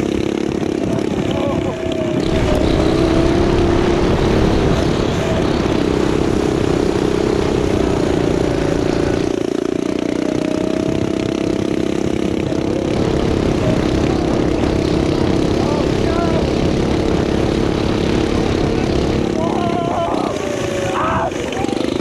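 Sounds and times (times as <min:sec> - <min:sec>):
go-kart engine droning: 0:00.0 - 0:22.0.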